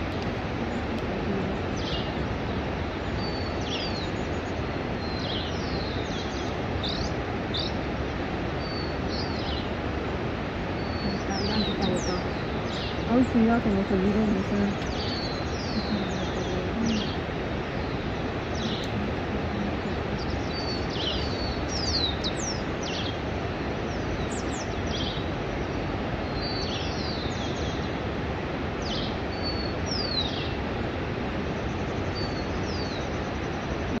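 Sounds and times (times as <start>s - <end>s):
birds chirping: 0.0s - 34.0s
steady rushing background noise: 0.0s - 34.0s.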